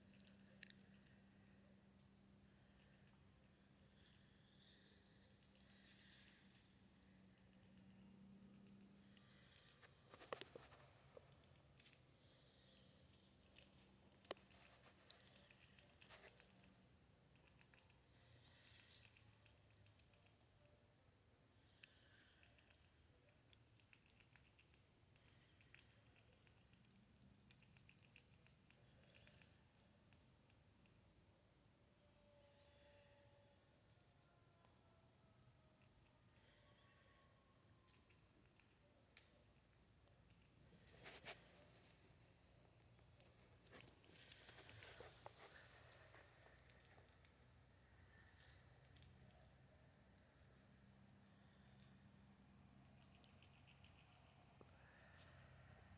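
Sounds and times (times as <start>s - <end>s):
high insect chirping: 0.0s - 55.9s.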